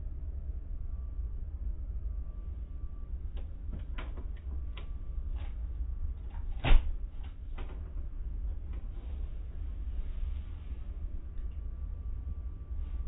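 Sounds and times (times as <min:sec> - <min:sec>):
car wash low rumble: 0:00.0 - 0:13.0.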